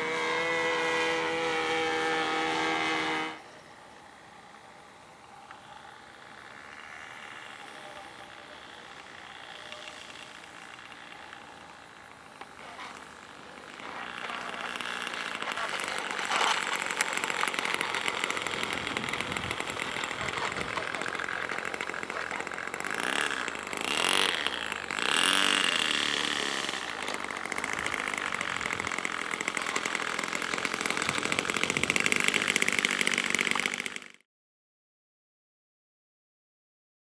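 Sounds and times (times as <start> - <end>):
model airplane engine buzzing: 0.0 - 34.2.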